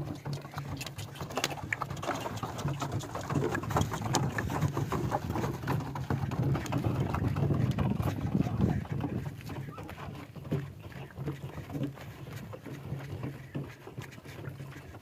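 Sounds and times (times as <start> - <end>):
hoofbeats clattering: 0.0 - 15.0
water drums rolling rumble: 0.0 - 15.0.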